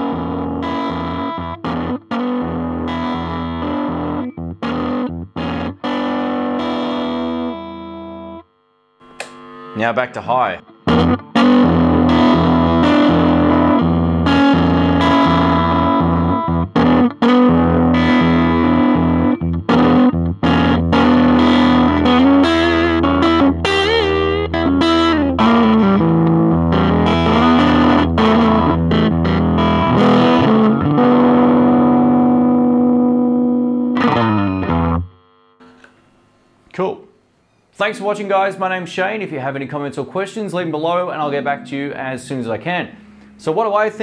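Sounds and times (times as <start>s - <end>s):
overdriven electric guitar: 0.0s - 9.8s, 10.6s - 36.1s, 41.2s - 43.5s.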